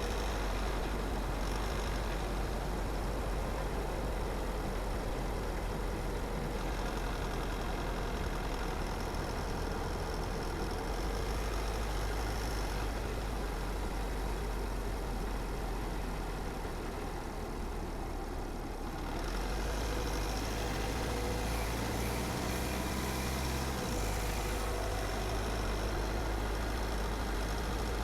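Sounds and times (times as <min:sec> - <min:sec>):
tyres rumbling on road: 0:00.0 - 0:28.0.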